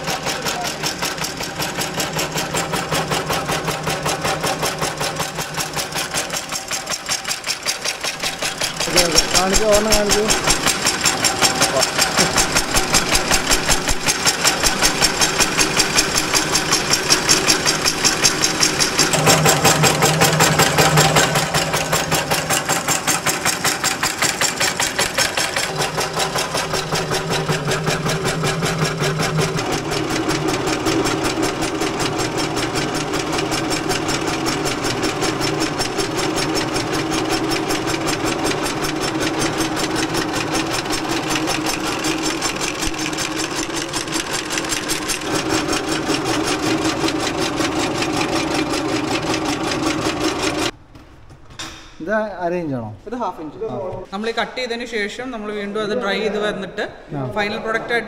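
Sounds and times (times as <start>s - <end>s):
cutting machine blade clacks: 0.0s - 50.7s
motor hum: 0.0s - 50.8s.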